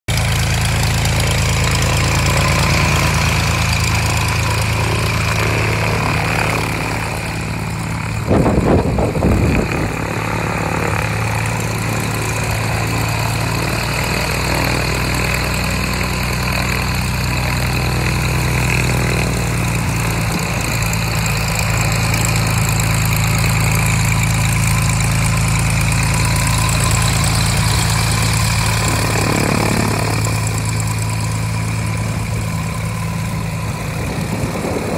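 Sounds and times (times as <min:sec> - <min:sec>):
engine idling: 0:00.1 - 0:34.9.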